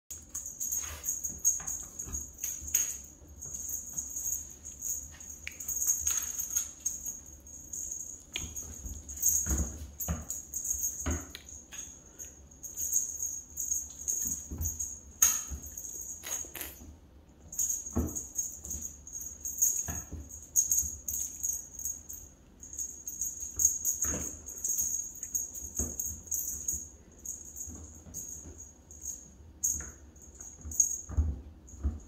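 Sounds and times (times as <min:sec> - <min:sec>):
small bell jingling: 0:00.1 - 0:16.8, 0:17.4 - 0:32.0.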